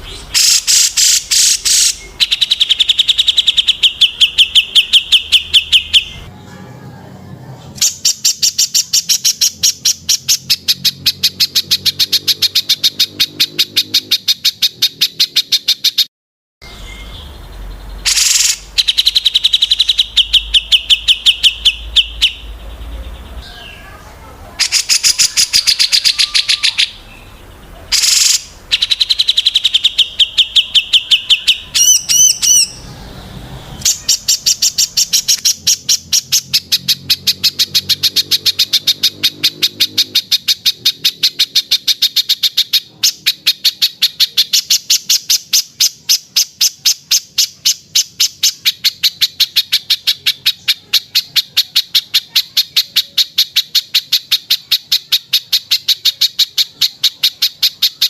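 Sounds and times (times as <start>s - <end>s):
songbirds chirping rapidly: 0.0s - 16.0s, 16.6s - 58.0s.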